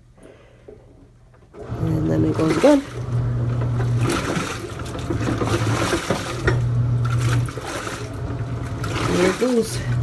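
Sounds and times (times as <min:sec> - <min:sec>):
washing machine motor humming: 0:00.9 - 0:10.0
water and clothes sloshing: 0:01.6 - 0:10.0.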